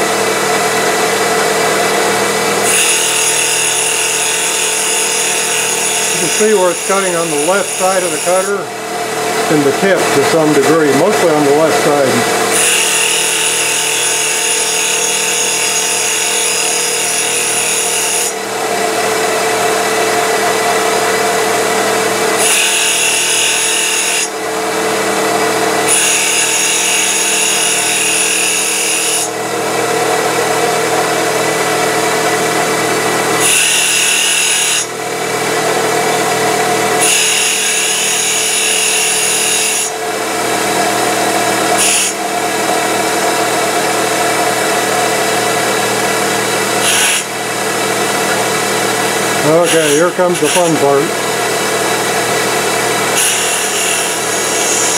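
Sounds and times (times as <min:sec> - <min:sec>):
lathe cutter cutting wood: 0:00.0 - 0:54.9
machine whine: 0:00.0 - 0:54.9.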